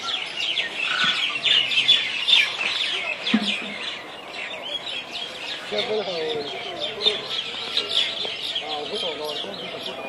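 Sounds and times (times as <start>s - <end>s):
birds chirping: 0.0s - 10.0s
low bird call: 0.0s - 10.0s.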